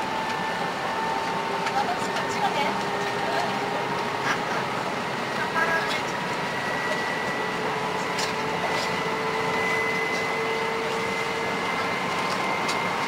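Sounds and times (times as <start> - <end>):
high-speed train running: 0.0 - 13.0.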